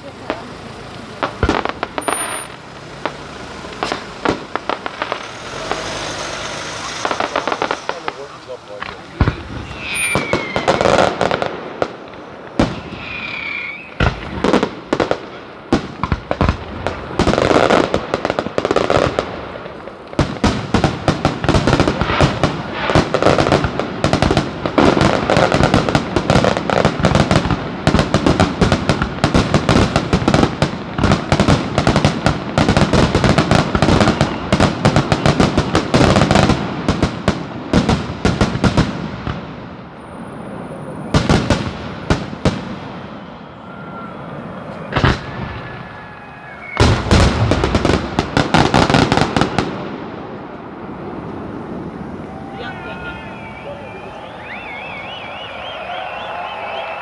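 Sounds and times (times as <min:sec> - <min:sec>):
fireworks bursting with bangs: 0:00.0 - 0:57.0
firework whistles: 0:00.8 - 0:37.2, 0:37.8 - 0:49.8, 0:50.8 - 0:57.0.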